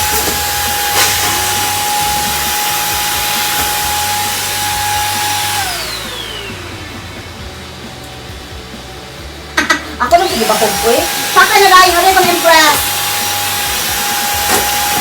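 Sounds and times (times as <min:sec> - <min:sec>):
motor winding down: 0:00.0 - 0:08.7, 0:10.0 - 0:15.0
vacuum cleaner whine: 0:00.0 - 0:15.0.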